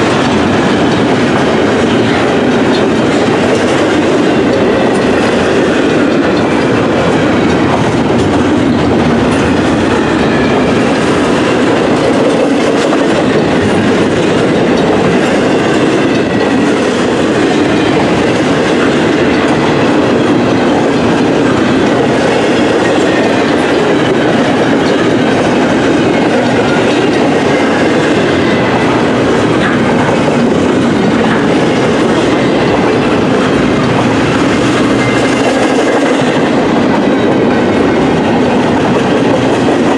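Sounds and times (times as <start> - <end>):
clickety-clack over rail joints: 0.0 - 39.9
train wheels rumbling on rail: 0.0 - 39.9.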